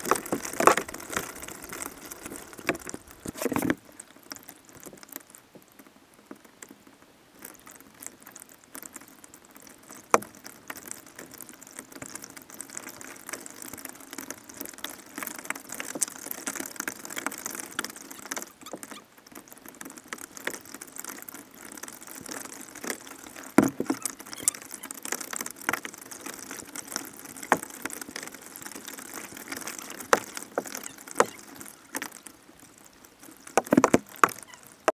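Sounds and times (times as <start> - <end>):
water splashing around a kayak: 0.0 - 34.9.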